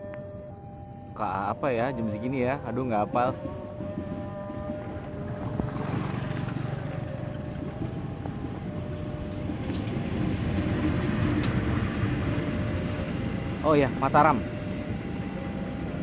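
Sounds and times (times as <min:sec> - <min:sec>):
train wheels rumbling on rails: 0:01.2 - 0:16.0.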